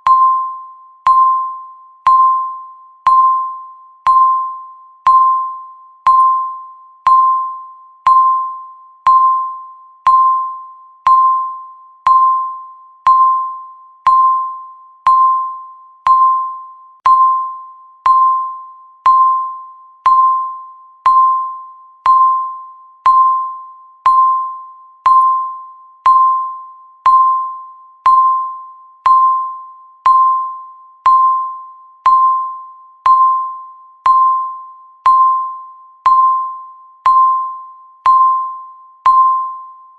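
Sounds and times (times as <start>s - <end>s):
timer beeps: 0.0s - 39.9s.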